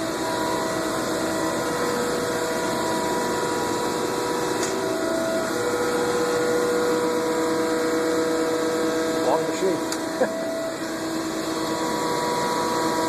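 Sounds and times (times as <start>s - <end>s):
surface grinder whirring: 0.0s - 13.0s.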